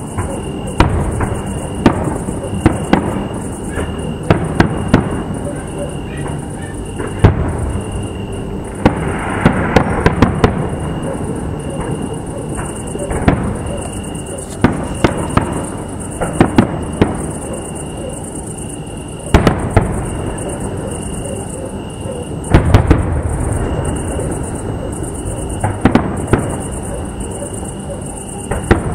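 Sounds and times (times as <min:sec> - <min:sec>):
fireworks bursting: 0:00.0 - 0:28.9.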